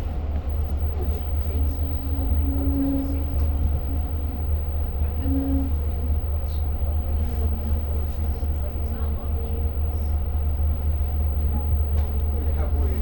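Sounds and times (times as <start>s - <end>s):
train rumbling inside passenger car: 0.0s - 13.0s
faint short tones: 0.5s - 13.0s.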